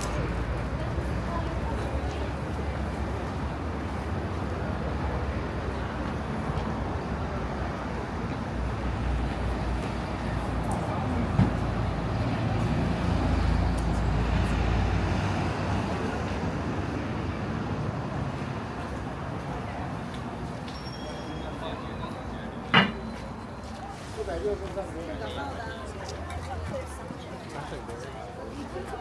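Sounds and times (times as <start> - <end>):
road traffic: 0.0 - 27.5.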